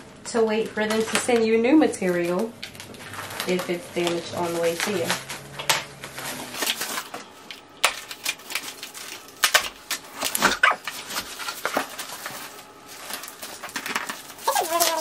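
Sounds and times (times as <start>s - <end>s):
plastic wrap crackling: 0.2s - 15.0s
cardboard rustling: 2.0s - 15.0s.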